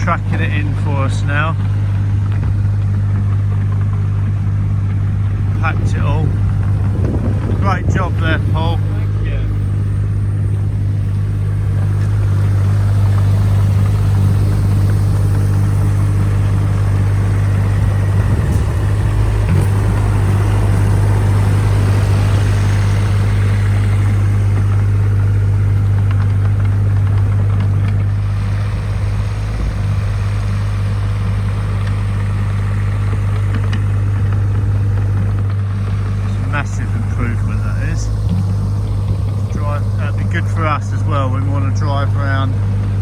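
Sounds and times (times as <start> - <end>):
diesel engine humming: 0.0 - 43.0.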